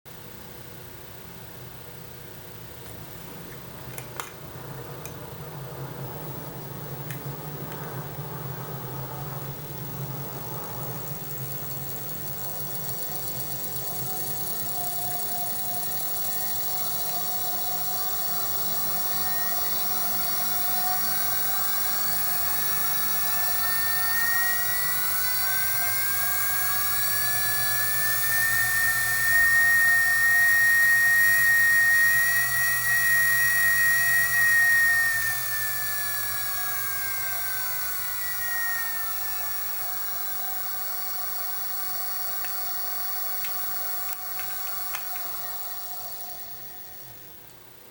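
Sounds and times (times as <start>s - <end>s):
electric motor whining: 6.0s - 47.5s.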